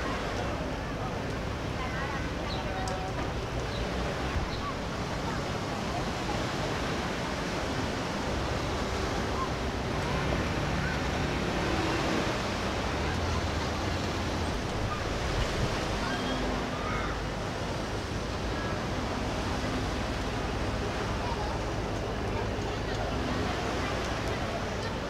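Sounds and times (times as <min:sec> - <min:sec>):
rushing water: 0:00.0 - 0:25.0
wind: 0:00.0 - 0:25.0.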